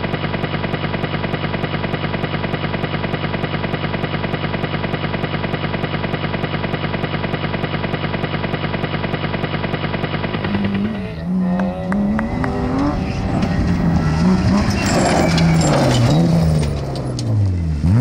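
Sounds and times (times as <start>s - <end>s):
rapidly pulsing hum: 0.0s - 14.9s
rally car engine revving: 0.0s - 18.0s.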